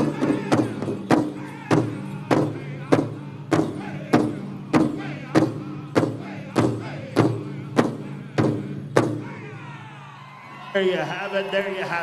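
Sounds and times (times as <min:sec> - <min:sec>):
group singing: 0:00.0 - 0:09.8.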